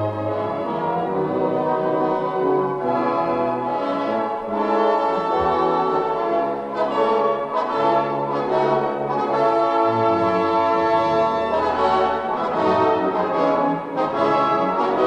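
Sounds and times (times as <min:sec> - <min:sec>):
orchestral music with brass: 0:00.0 - 0:15.0.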